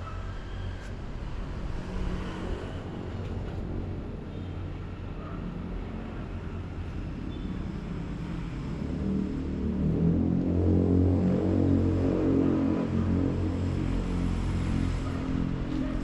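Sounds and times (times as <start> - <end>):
faint engine hum: 0.0 - 16.0
low rumble of traffic: 0.0 - 16.0.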